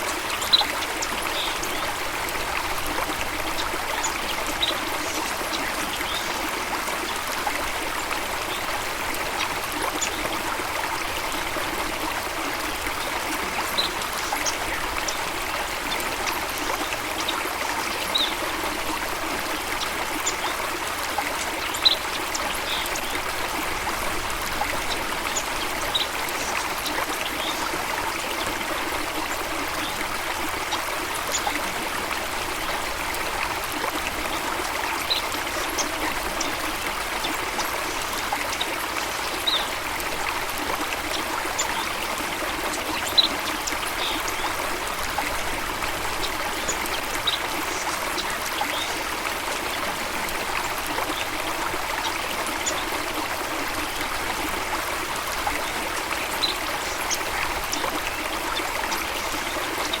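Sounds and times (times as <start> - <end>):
stream water flowing: 0.0 - 60.0.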